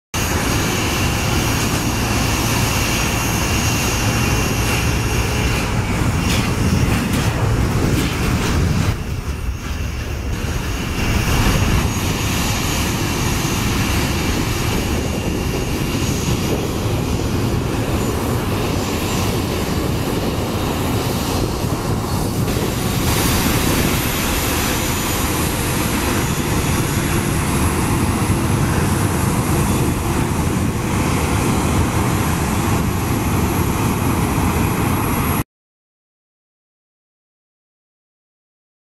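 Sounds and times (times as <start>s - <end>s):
jet engines idling: 0.2s - 35.4s.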